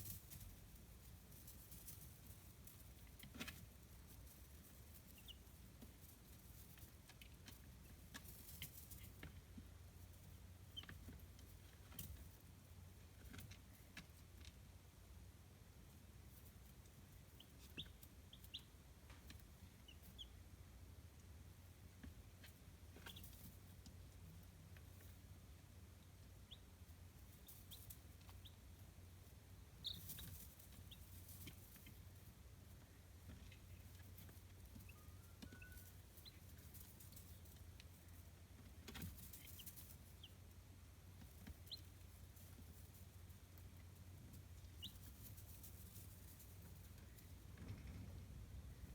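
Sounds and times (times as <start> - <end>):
chicks peeping: 0.0 - 12.3, 15.9 - 20.5, 21.1 - 48.9.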